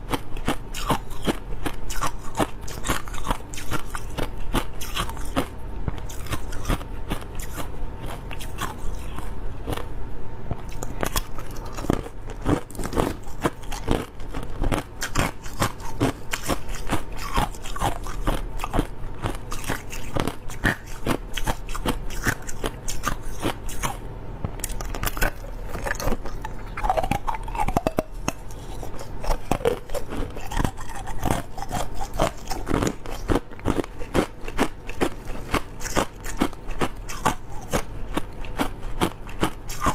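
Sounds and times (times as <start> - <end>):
ice being chewed: 0.0 - 9.9, 10.6 - 24.0, 24.6 - 39.9.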